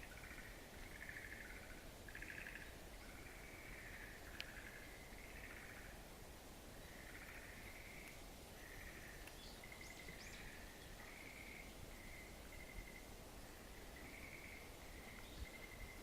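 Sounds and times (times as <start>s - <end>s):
frogs trilling: 0.0s - 6.0s, 6.9s - 13.1s, 14.0s - 16.0s.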